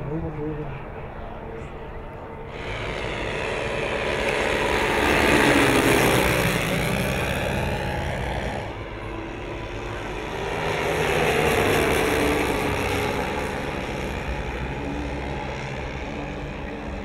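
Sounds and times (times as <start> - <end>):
model aircraft engines flying past: 0.0 - 17.0.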